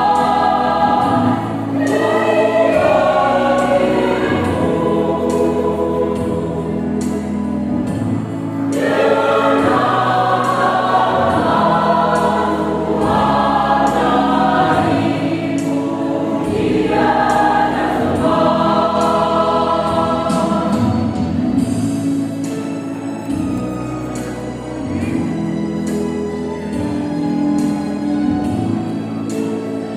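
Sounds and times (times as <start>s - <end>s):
choir singing a hymn: 0.0s - 25.4s.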